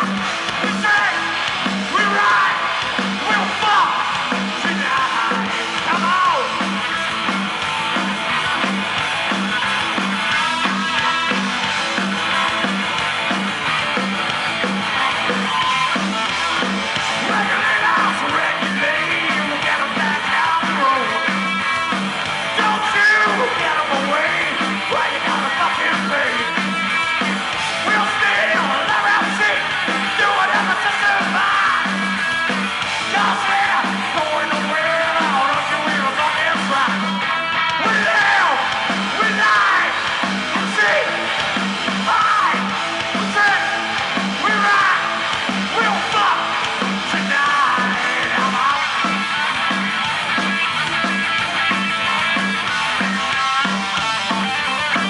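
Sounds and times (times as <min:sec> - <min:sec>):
electric guitar: 0:00.0 - 0:55.0
steady drum beat: 0:00.0 - 0:55.0
yelled sung vocals: 0:00.0 - 0:55.0.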